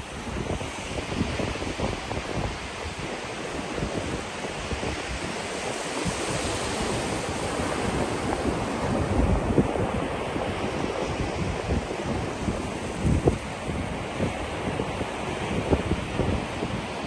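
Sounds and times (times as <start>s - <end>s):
waves washing over sand: 0.0s - 17.0s.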